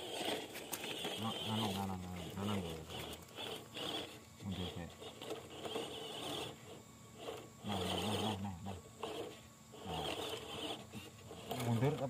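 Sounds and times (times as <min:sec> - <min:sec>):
toy car electric motor whining: 0:00.0 - 0:12.0.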